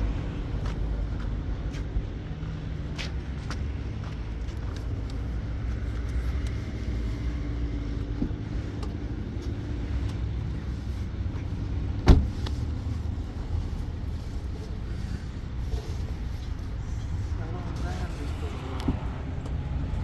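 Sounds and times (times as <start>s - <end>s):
car rumbling on the move: 0.0s - 20.0s.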